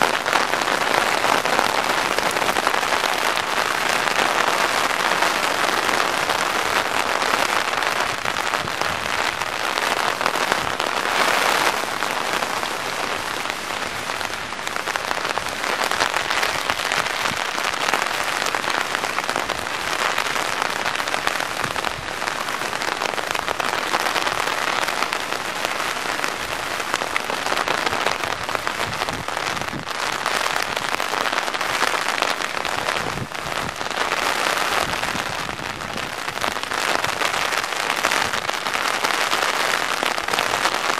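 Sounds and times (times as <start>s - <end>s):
rain hissing on wet pavement: 0.0s - 40.9s
rain striking an umbrella: 0.0s - 40.9s.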